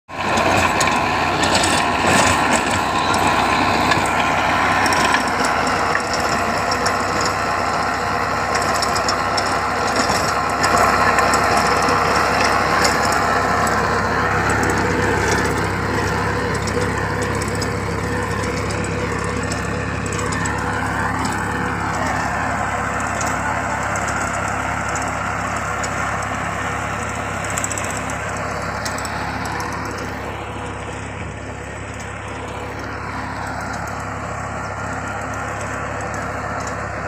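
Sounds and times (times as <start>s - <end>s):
tiller blades churning soil: 0.1s - 37.0s
tractor diesel engine running: 0.1s - 37.0s.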